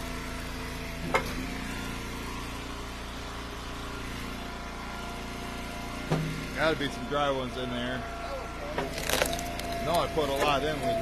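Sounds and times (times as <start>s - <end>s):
wood splitter engine running: 0.0s - 11.0s.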